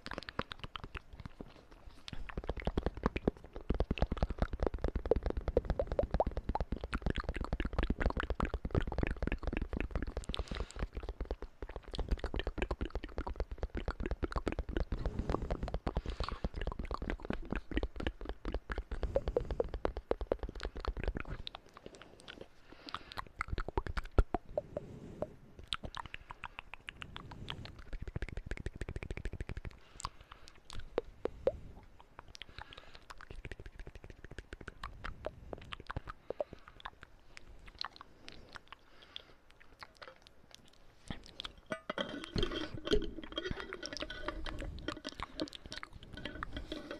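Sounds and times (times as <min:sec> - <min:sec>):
wet mouth clicks and smacks: 0:00.0 - 0:46.9.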